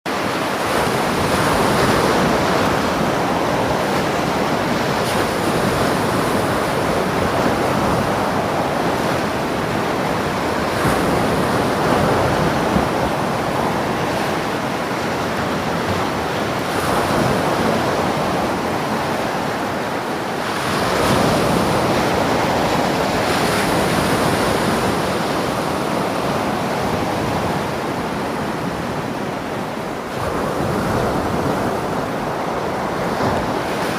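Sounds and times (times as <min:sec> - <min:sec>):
ocean surf rushing: 0:00.1 - 0:33.9.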